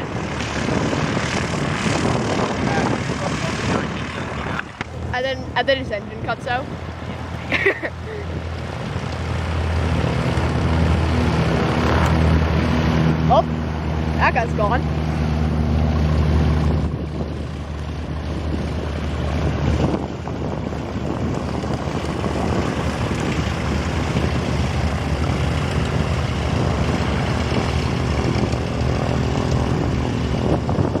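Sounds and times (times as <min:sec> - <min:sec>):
broad rushing noise: 0:00.0 - 0:31.0
light aircraft engine humming: 0:00.0 - 0:31.0.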